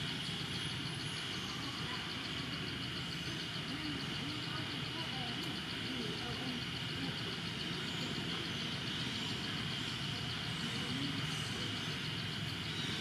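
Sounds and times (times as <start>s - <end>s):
high-pitched pulsing insect drone: 0.0s - 13.0s.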